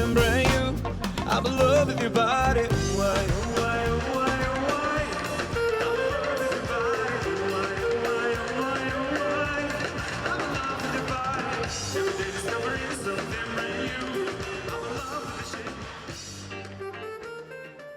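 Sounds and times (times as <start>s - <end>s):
person singing: 0.0s - 17.6s
pop music with guitar and drums: 0.0s - 17.9s.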